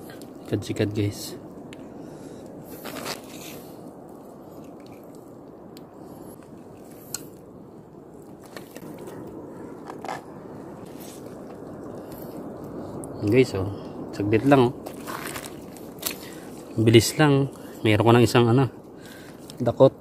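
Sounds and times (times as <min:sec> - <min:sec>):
steady low noise: 0:00.0 - 0:19.0.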